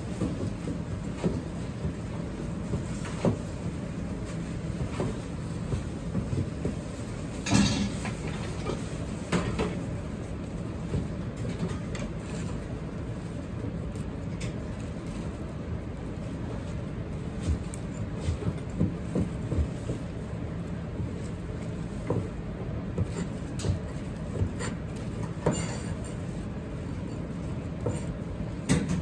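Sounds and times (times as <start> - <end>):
low rumble of kitchen: 0.0 - 29.0.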